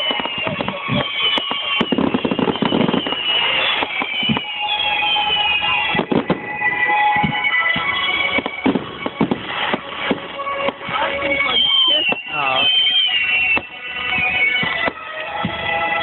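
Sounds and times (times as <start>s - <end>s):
fireworks bangs and crackle: 0.0s - 16.0s
fireworks whistling: 0.0s - 16.0s.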